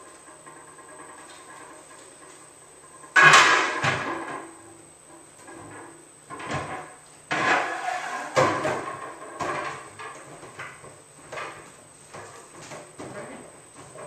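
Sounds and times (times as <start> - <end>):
plastic sections knocking and scraping: 0.0 - 14.0.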